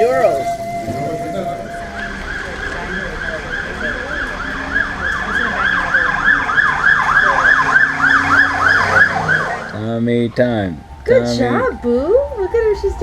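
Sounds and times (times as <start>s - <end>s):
siren yelping: 0.0s - 13.0s.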